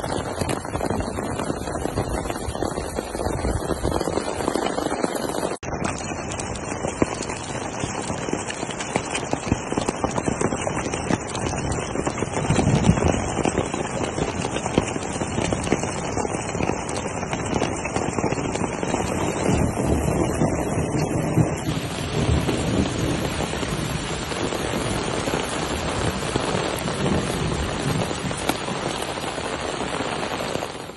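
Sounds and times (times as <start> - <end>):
hail and heavy rain pelting: 0.0 - 30.9.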